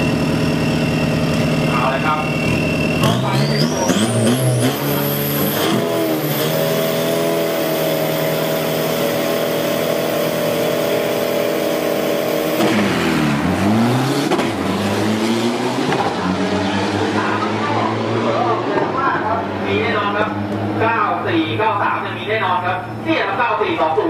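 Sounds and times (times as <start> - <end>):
diesel trucks revving and accelerating: 0.0 - 24.0.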